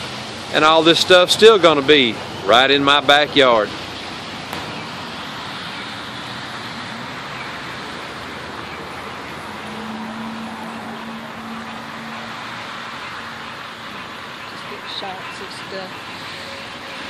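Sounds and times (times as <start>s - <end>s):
rain: 0.0s - 14.8s, 15.7s - 17.0s
floodwater flowing: 0.0s - 17.0s.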